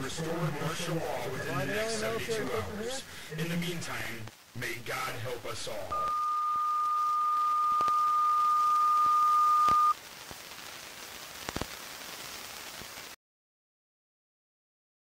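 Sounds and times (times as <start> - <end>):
faint radio static: 0.0 - 13.2.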